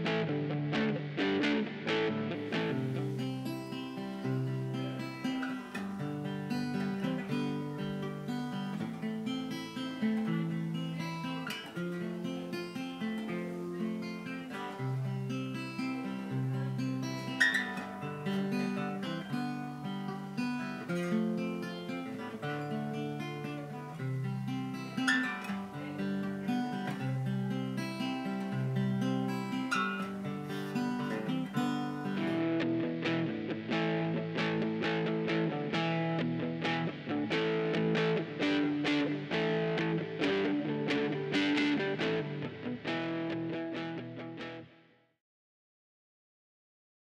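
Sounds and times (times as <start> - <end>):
acoustic guitar chords strummed: 0.0 - 44.8.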